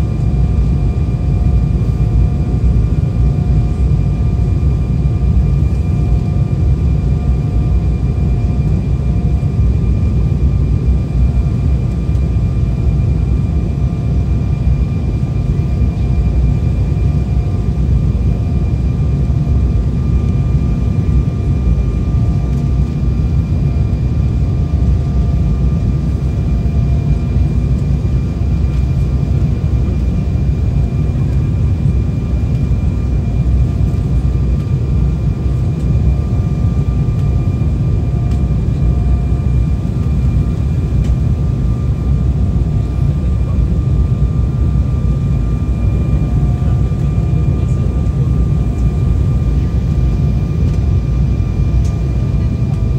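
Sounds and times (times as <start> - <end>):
aircraft cabin rumble: 0.0 - 52.9
jet engine whine: 0.0 - 52.9.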